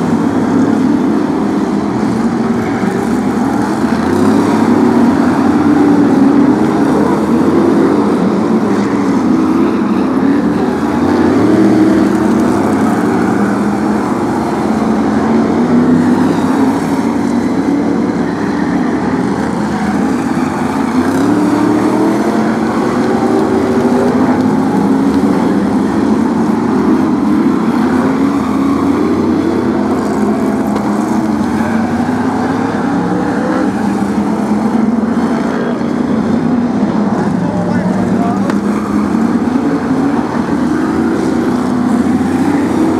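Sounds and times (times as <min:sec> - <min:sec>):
racing car engines: 0:00.0 - 0:42.9.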